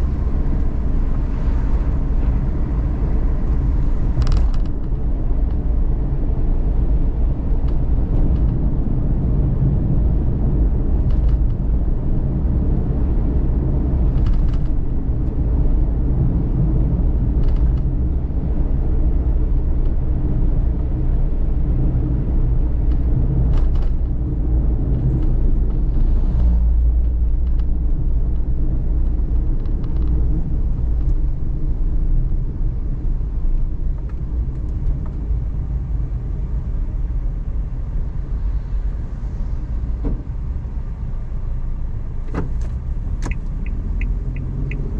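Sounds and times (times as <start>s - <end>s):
road noise: 0.0s - 44.9s
van engine low rumble: 0.0s - 44.9s.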